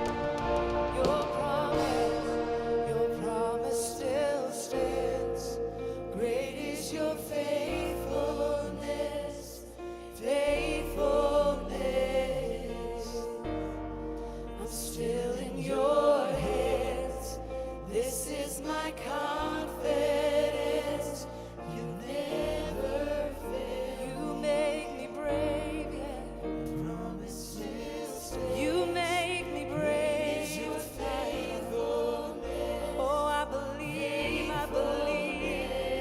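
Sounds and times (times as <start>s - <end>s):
sustained low bass chords: 0.0s - 36.0s
voices singing with vibrato: 0.0s - 36.0s.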